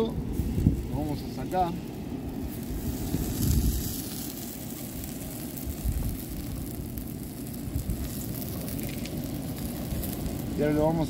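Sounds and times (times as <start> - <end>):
charcoal fire crackling: 0.0 - 11.0
wind rumbling on microphone: 0.0 - 11.0.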